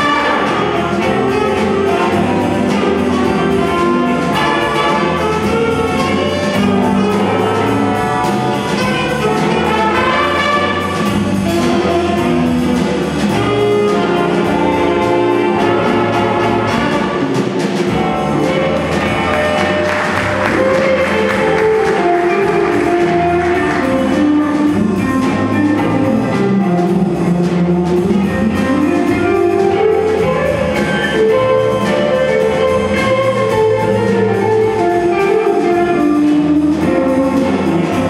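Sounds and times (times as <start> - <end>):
drum kit beat: 0.0 - 38.0
jazz big band playing: 0.0 - 38.0.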